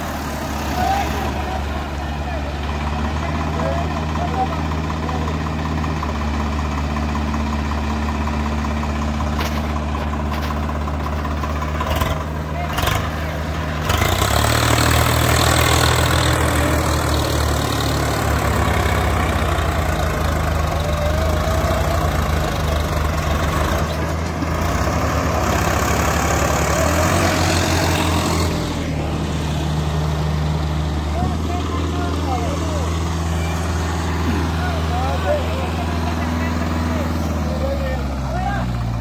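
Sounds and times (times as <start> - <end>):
diesel tractor engines under load: 0.0 - 39.0.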